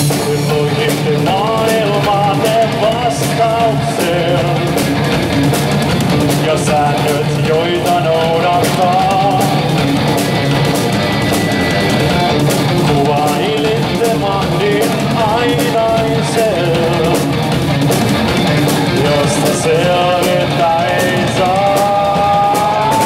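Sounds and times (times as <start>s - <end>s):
bass guitar: 0.0s - 23.0s
distorted electric guitars: 0.0s - 23.0s
drum kit with cymbal hits: 0.0s - 23.0s.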